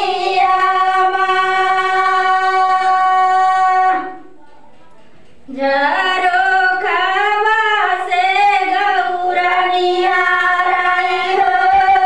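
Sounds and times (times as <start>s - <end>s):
woman singing: 0.0s - 4.2s, 5.5s - 12.0s.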